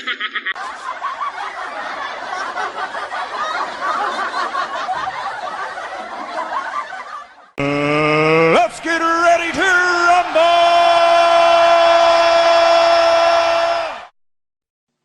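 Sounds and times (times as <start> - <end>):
crowd laughing: 0.0 - 12.2.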